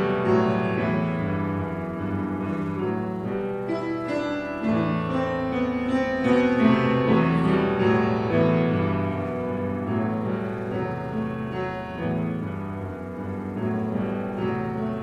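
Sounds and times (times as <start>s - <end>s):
slow classical piano piece: 0.0s - 15.0s.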